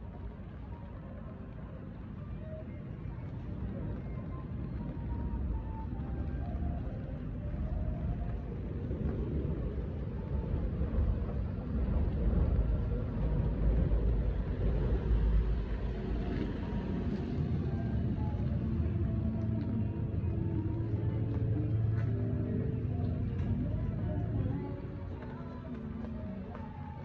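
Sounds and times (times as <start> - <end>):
street ambience rumble: 0.0 - 27.0.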